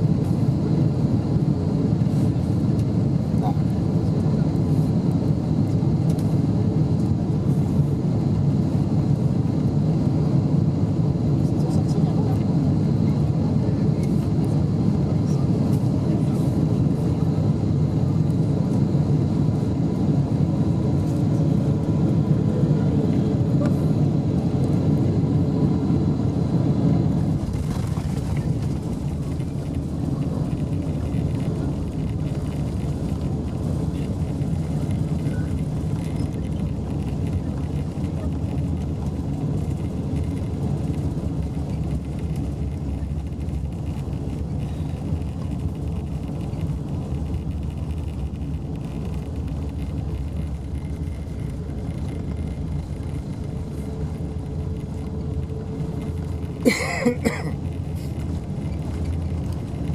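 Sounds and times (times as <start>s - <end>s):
jet engines and rushing air: 0.0s - 59.9s.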